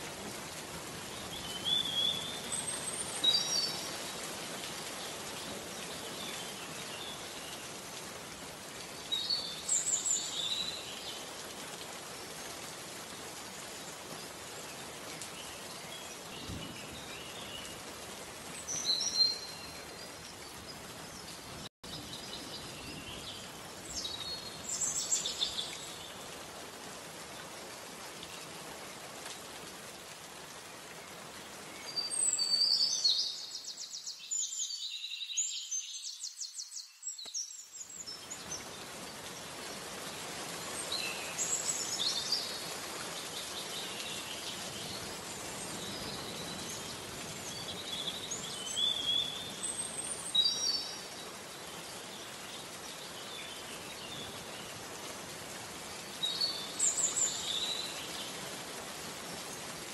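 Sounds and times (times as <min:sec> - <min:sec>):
steady rain in forest: 0:00.0 - 0:59.9.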